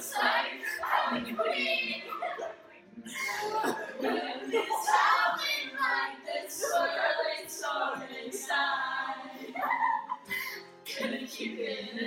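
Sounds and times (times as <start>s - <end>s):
group singing unaccompanied: 0.0s - 2.6s, 3.2s - 10.1s, 10.9s - 12.0s.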